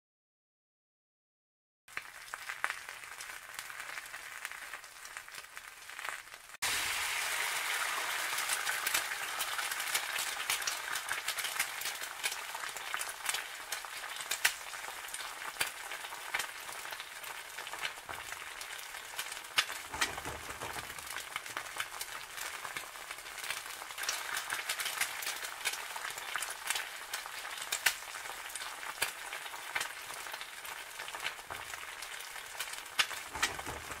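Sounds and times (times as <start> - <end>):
egg frying in hot oil: 1.9 - 34.0.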